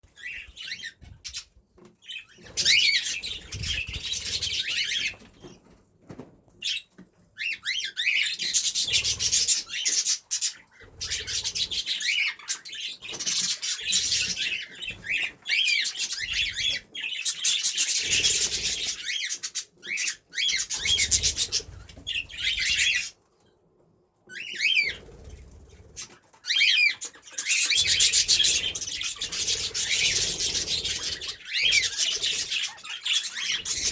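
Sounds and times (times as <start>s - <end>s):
budgerigars and cockatiels chirping: 0.1s - 5.6s, 6.6s - 23.2s, 24.3s - 33.9s.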